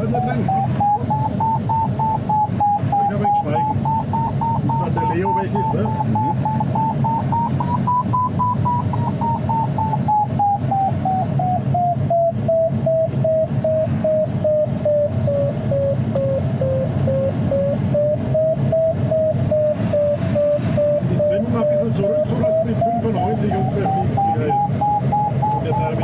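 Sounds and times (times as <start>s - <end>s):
airflow noise in cockpit: 0.0s - 26.0s
variometer beeping: 0.0s - 26.0s.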